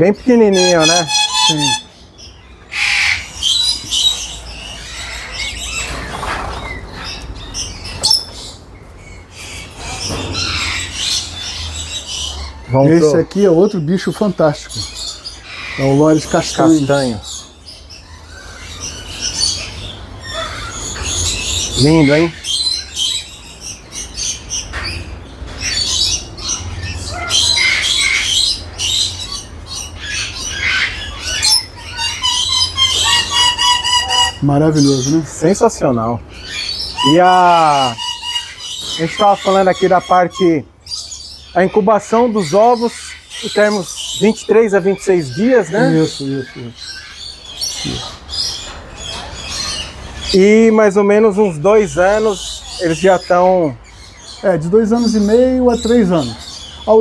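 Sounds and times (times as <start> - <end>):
rapid repeated bird call: 0.0 - 8.6, 9.2 - 35.4, 36.3 - 57.0
parrots squawking and screeching: 0.0 - 57.0.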